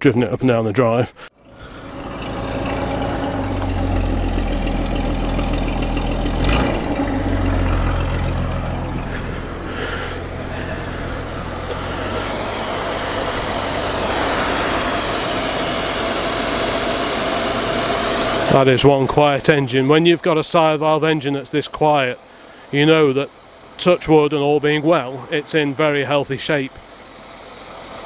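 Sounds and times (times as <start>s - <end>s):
engine idling quietly: 1.4s - 28.0s.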